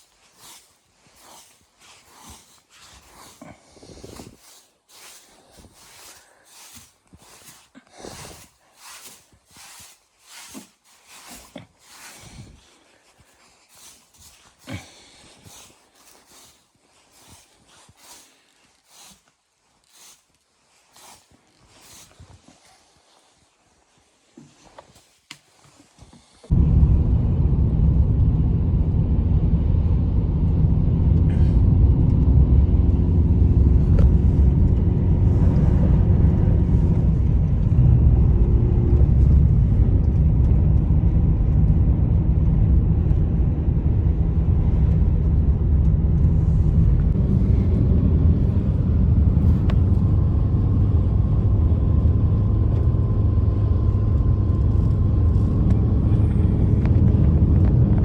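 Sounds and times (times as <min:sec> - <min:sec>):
blizzard wind rumbling: 0:00.0 - 0:19.1, 0:26.5 - 0:58.0.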